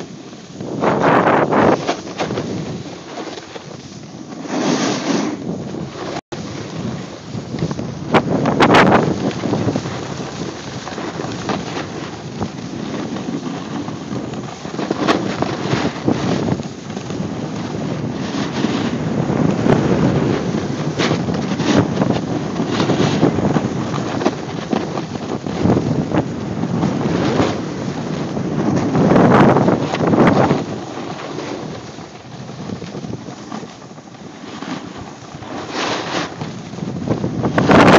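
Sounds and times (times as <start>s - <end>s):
snowboard edge scraping snow: 0.0s - 37.9s
wind rushing over microphone: 0.0s - 37.9s.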